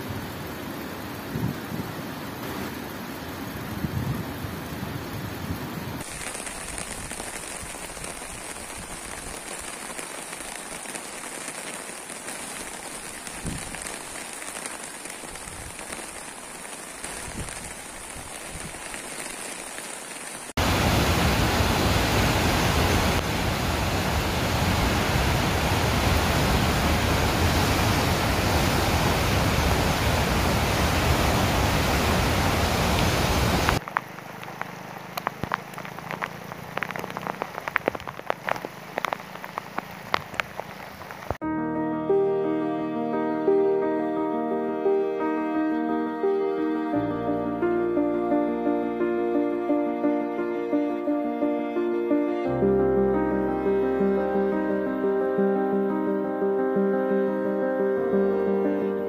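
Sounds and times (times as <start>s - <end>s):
rain falling: 0.0s - 41.4s, 46.9s - 56.3s.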